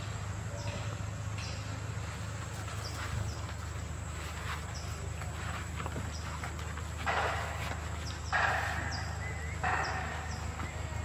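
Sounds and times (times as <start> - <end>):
steady low hum: 0.0 - 11.0
dry leaves rustling: 2.1 - 11.0.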